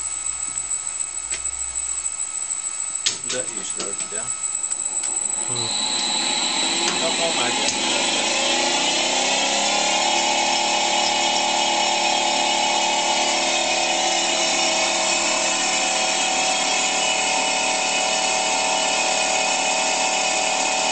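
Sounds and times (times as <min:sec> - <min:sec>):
electric motor machine whine: 0:00.0 - 0:20.9.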